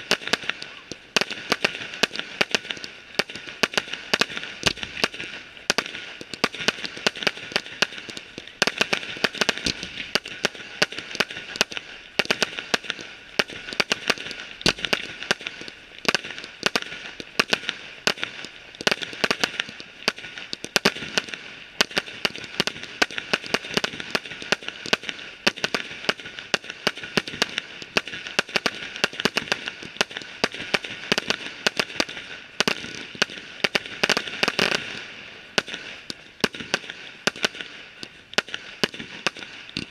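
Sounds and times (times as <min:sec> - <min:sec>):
fireworks cracking and popping: 0:00.0 - 0:39.9.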